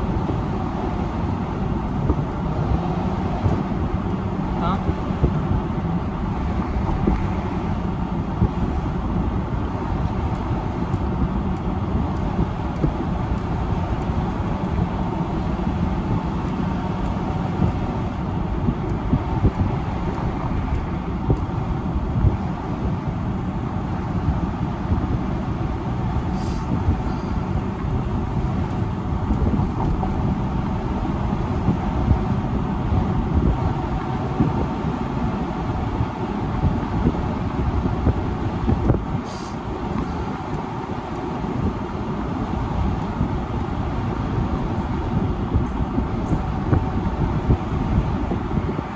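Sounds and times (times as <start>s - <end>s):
car road noise from inside: 0.0s - 48.9s.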